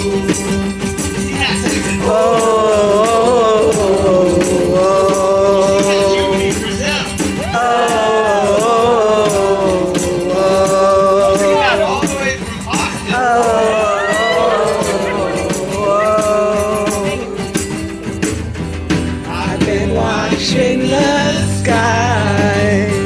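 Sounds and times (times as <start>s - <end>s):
shaker rattle: 0.0s - 21.3s
live rock band playing: 0.0s - 23.0s.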